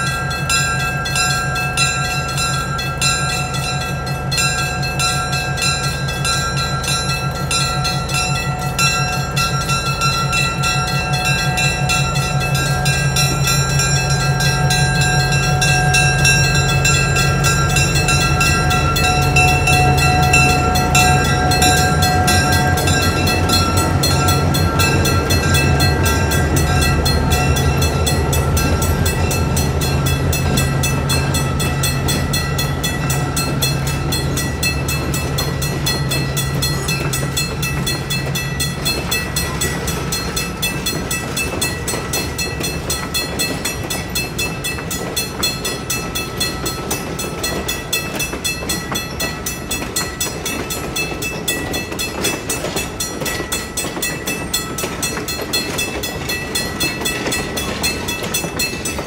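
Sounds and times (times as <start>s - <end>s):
locomotive engine drone: 0.0s - 59.0s
railcars clattering on track: 0.0s - 59.0s.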